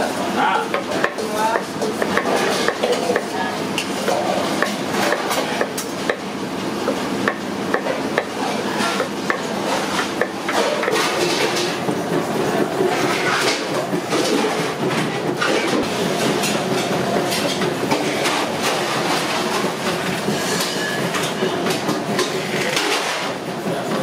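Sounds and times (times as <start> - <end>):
busy background noise: 0.0 - 24.0
steel bowls and utensils clattering: 0.6 - 5.9, 7.9 - 24.0.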